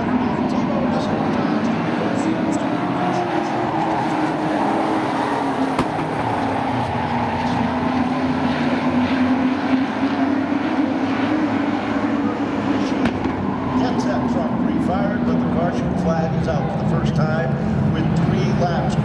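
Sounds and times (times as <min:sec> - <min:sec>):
racing truck engines droning: 0:00.0 - 0:19.0.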